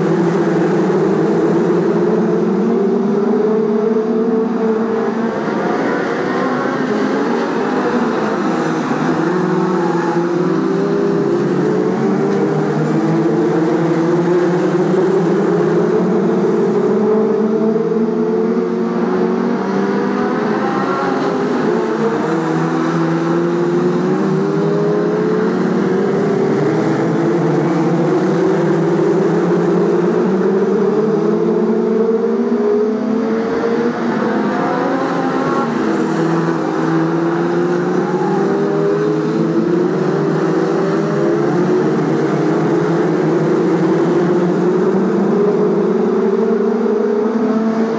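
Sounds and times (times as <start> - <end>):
stock car engines racing: 0.0 - 47.9.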